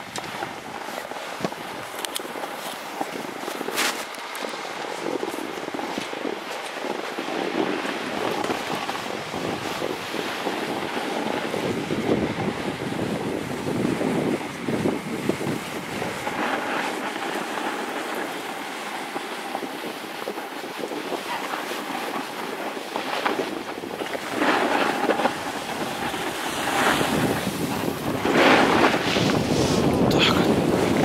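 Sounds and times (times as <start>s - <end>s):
board sliding over snow: 0.0s - 31.0s
wind over microphone: 0.0s - 31.0s.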